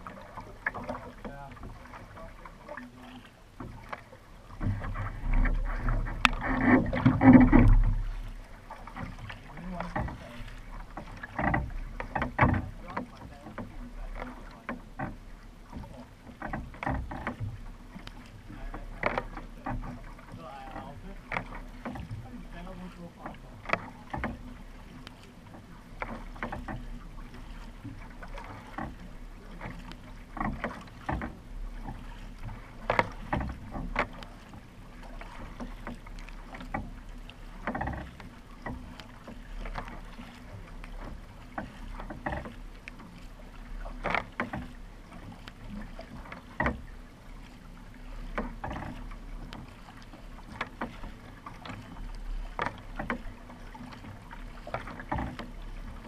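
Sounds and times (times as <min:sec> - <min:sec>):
paddle splashing in water: 0:00.0 - 0:56.0.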